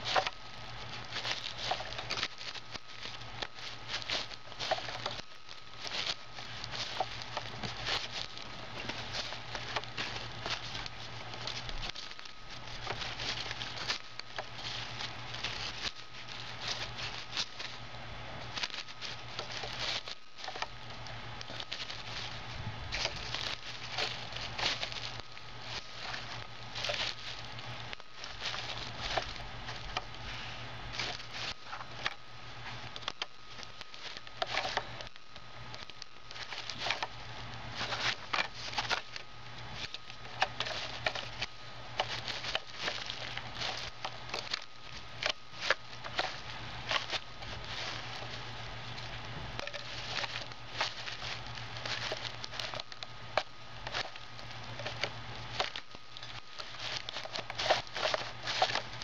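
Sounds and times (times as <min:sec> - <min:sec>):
faint steady hum: 0:00.0 - 0:59.0
tissue paper and plastic crinkling: 0:00.0 - 0:59.0.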